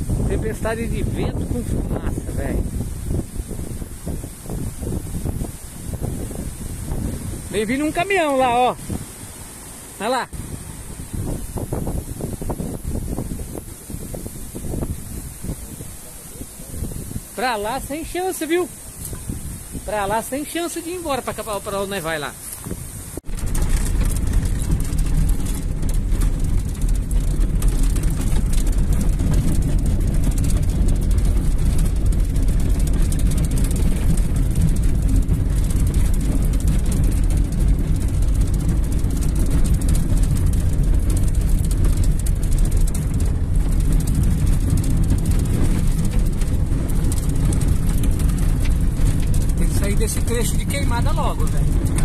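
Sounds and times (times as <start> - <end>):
car engine and tyres rumbling: 0.0 - 52.0.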